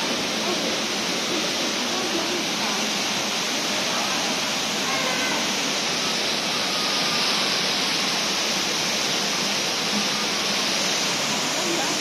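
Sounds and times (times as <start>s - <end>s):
faint voices: 0.0s - 8.0s, 9.8s - 12.0s
indoor waterfall roaring: 0.0s - 12.0s.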